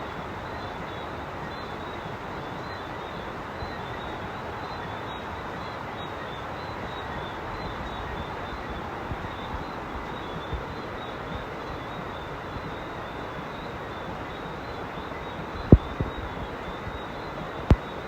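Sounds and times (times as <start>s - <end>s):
frogs chirping: 0.1s - 18.0s.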